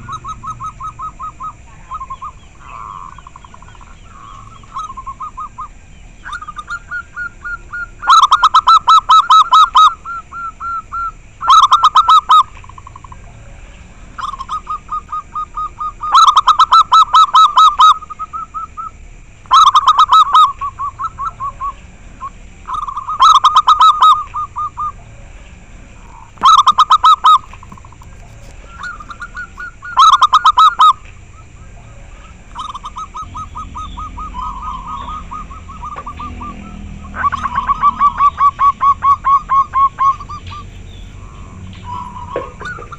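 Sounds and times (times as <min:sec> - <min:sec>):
dove cooing: 0:00.0 - 0:42.9.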